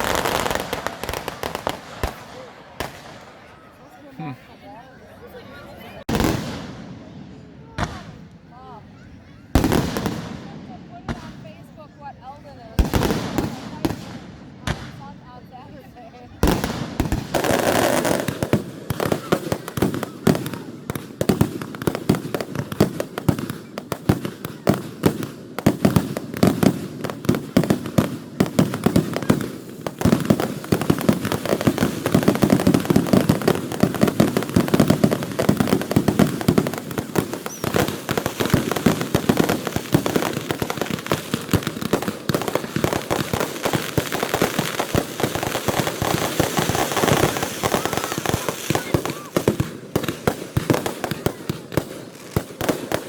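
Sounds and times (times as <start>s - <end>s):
fireworks crackling and popping: 0.0s - 3.6s, 6.0s - 8.4s, 9.5s - 11.8s, 12.5s - 53.0s.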